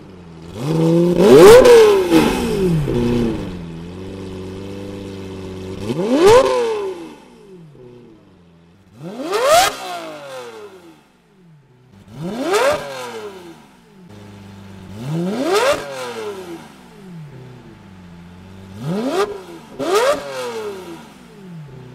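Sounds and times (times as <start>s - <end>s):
car engine revving and idling: 0.0s - 21.9s.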